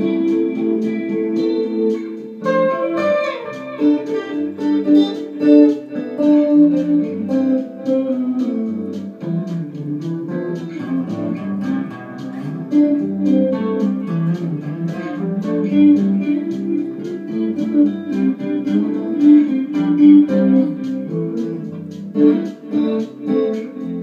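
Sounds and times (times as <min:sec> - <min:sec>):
electric guitar bossa nova: 0:00.0 - 0:24.0.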